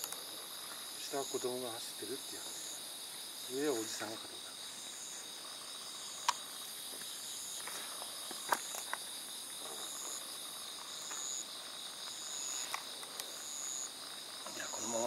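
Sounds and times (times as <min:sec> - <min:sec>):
night insects chirring: 0:00.0 - 0:15.0.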